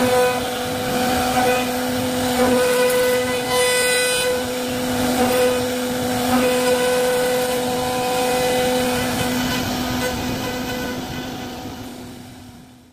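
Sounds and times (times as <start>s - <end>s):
router motor whine: 0.0s - 11.2s
hiss of cutting wood: 0.0s - 12.3s.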